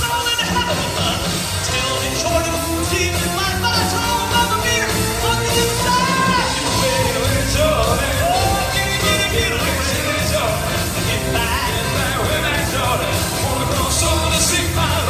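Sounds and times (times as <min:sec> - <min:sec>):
band with steady bass line: 0:00.0 - 0:15.0
male vocal quartet singing: 0:01.0 - 0:15.0.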